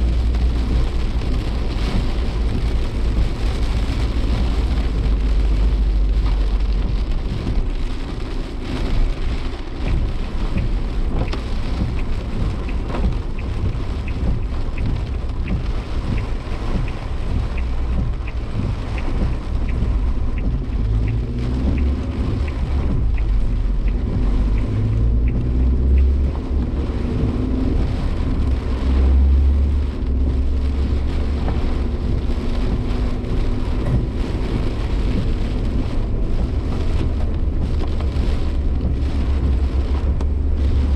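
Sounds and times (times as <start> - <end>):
car engine droning: 0.0 - 40.9
heavy rain on a car: 0.0 - 40.9
road and wind rumble: 0.0 - 40.9.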